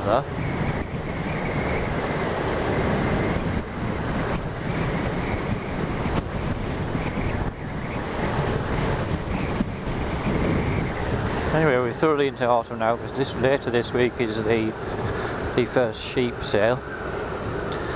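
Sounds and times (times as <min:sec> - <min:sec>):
motorcycle running: 0:00.0 - 0:17.9
wind rushing over microphone: 0:00.0 - 0:17.9.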